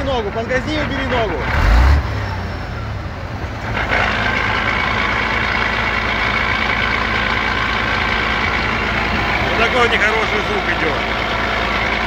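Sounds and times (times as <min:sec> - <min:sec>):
diesel truck idling: 0:00.0 - 0:12.0.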